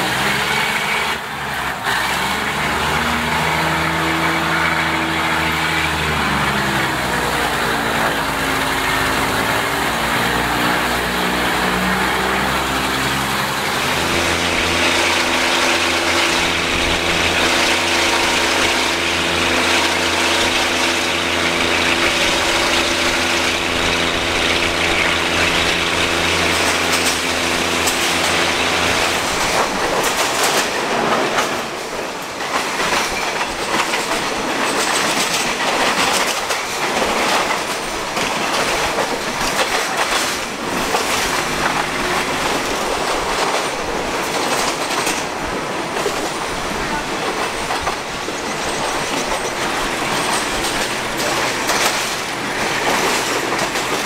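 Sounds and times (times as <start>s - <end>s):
diesel railcar engine running: 0.0s - 54.0s
wheel and rail noise: 0.0s - 54.0s.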